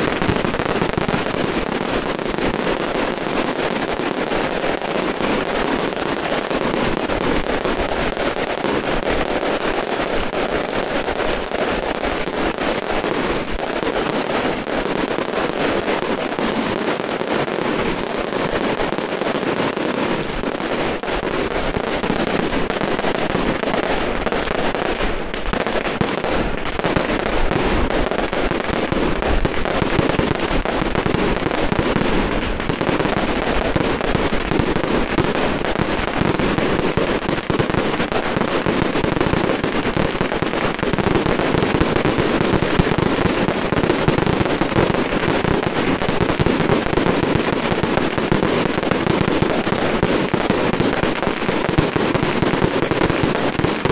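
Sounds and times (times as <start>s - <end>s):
firecrackers crackling: 0.0s - 53.9s.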